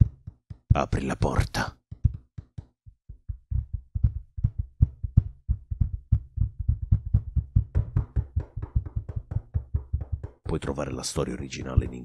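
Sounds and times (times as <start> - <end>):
rapid knocking on a door: 0.0 - 1.1, 1.9 - 12.0.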